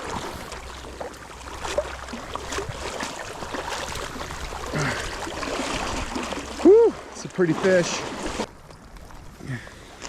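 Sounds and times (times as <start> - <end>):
river water running: 0.0 - 10.0.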